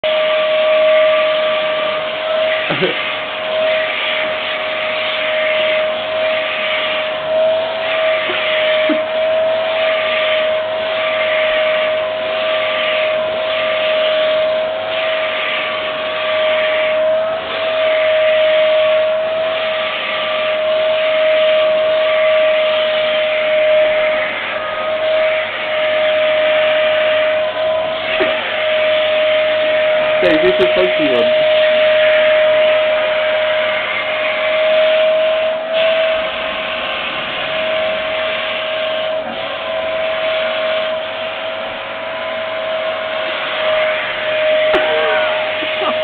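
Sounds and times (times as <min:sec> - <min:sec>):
vacuum cleaner running: 0:00.0 - 0:46.0.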